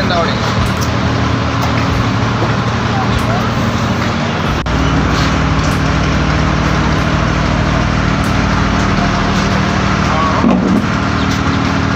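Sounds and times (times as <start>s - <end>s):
engine running steadily: 0.0s - 11.9s.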